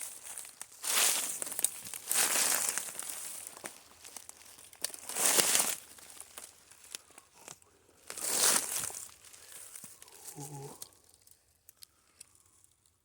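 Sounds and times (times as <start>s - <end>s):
footsteps crunching dry leaves: 0.0s - 10.6s.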